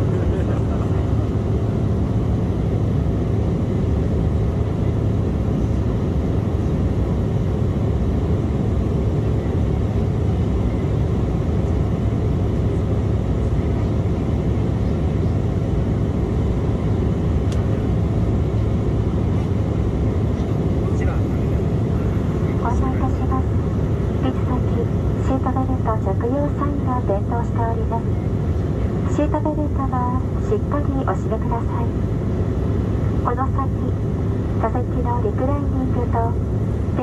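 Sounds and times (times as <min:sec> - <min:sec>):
airliner cabin roar: 0:00.0 - 0:37.0.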